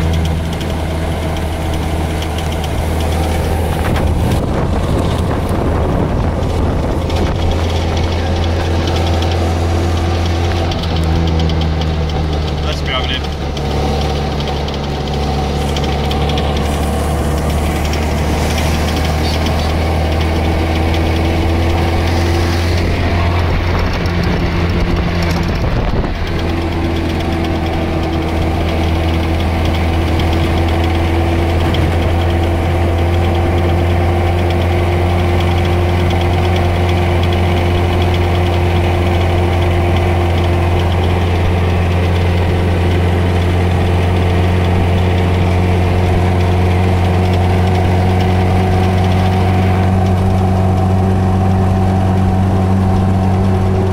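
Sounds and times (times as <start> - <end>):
car engine droning while driving: 0.0 - 53.9.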